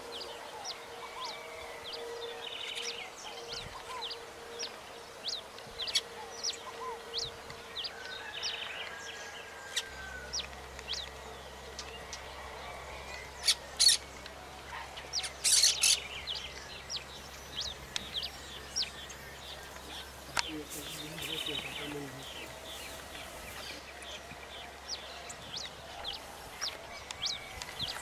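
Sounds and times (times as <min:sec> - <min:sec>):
birds chirping: 0:00.0 - 0:28.0
faint steady hum: 0:00.0 - 0:28.0.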